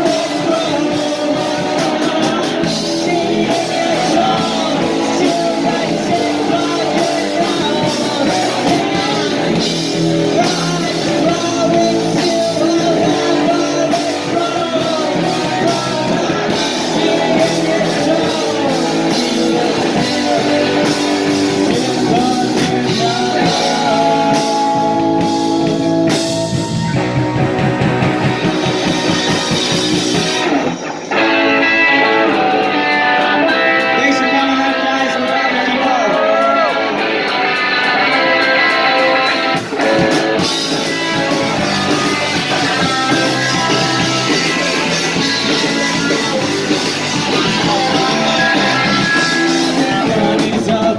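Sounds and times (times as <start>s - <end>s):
person singing: 0.0s - 27.7s, 31.2s - 50.9s
drum kit: 0.0s - 50.9s
electric bass: 0.0s - 50.9s
electric guitar: 0.0s - 50.9s.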